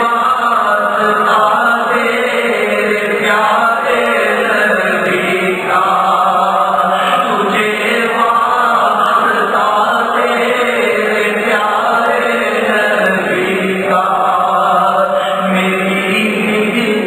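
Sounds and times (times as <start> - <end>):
man chanting devotional song: 0.0 - 17.0.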